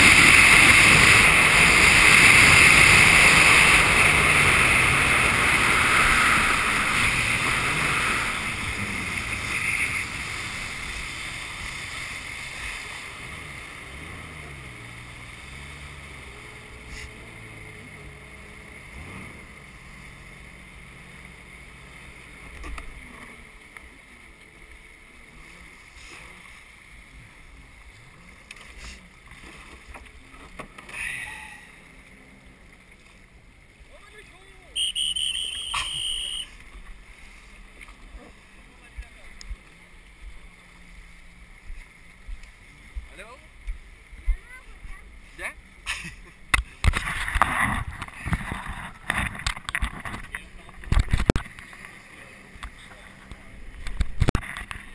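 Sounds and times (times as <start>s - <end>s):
jet ski engine running: 0.0s - 54.9s
water and wind rushing: 0.0s - 54.9s.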